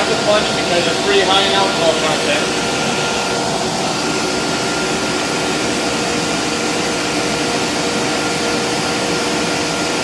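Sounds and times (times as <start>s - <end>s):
rushing machinery noise: 0.0s - 10.0s.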